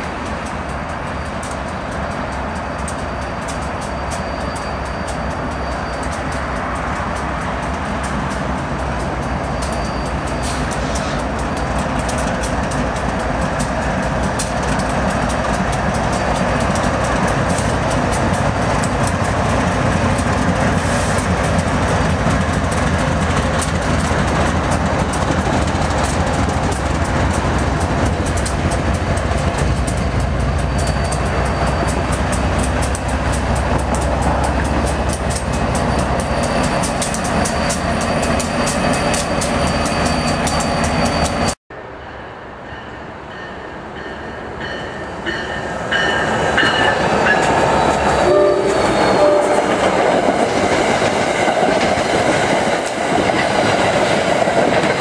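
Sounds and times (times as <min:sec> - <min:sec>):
locomotive engines rumbling: 0:00.0 - 0:55.0
wheels on rail: 0:00.0 - 0:55.0.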